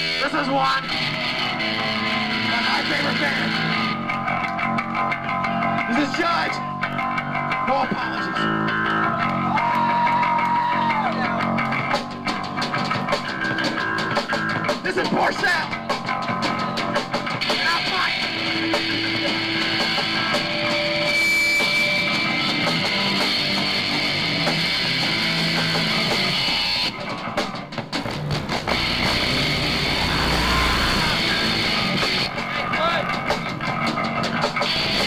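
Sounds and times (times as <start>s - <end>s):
bass guitar: 0.0s - 35.0s
drum kit with cymbal hits: 0.0s - 35.0s
electric guitars: 0.0s - 35.0s.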